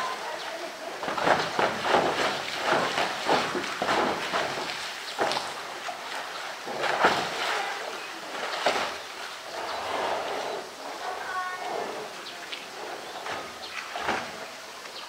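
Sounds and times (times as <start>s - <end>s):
loud splashes: 0.0s - 14.6s
water splashing and sloshing: 0.0s - 15.0s.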